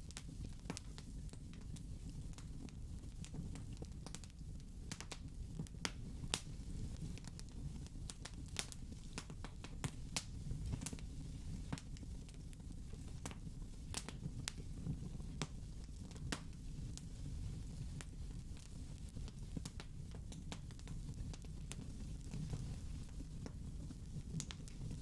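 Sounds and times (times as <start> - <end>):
low rumble of burning fire: 0.0 - 25.0
wood fire crackling and popping: 0.0 - 25.0.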